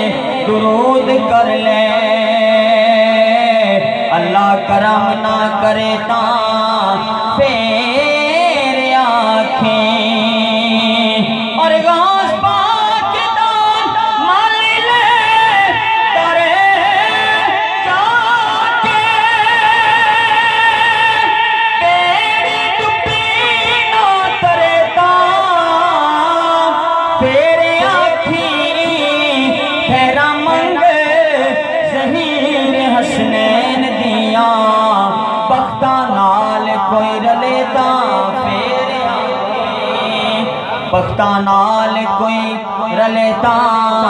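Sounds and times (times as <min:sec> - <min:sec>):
man singing through loudspeaker: 0:00.0 - 0:44.0.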